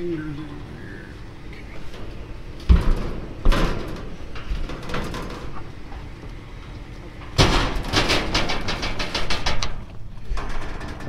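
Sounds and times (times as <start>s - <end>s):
metal dumpster banging: 1.3s - 11.0s
junk rattling: 1.4s - 11.0s.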